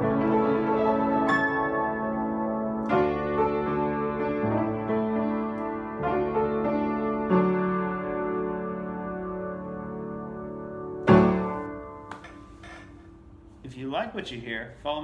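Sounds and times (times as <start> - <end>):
piano chords: 0.0 - 13.6.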